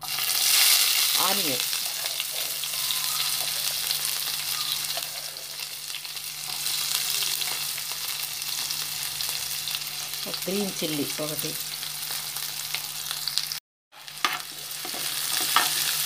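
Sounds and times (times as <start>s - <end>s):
onion sizzling in oil: 0.0s - 16.0s.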